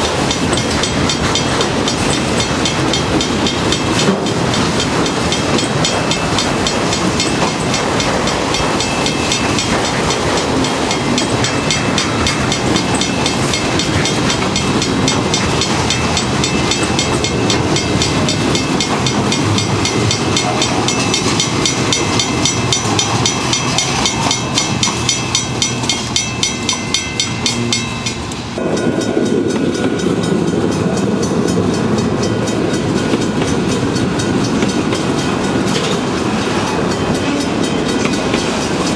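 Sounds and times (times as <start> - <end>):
freight train wheels clicking: 0.0 - 38.9
train rumble: 0.0 - 38.9.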